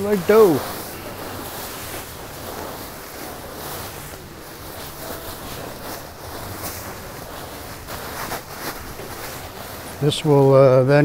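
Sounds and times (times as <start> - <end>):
foam beads rustling: 0.0 - 11.0
plastic bag crinkling: 0.0 - 11.0.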